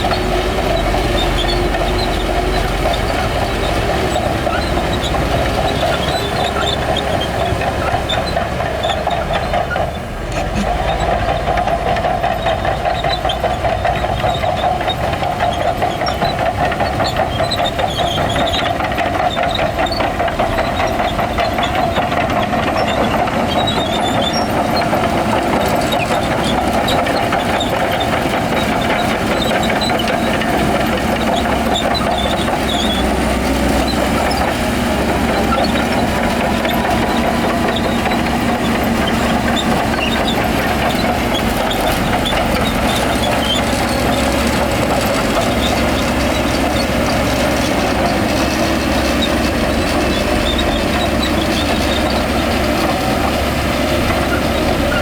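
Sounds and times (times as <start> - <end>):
heavy machinery diesel engine rumbling: 0.0 - 55.0.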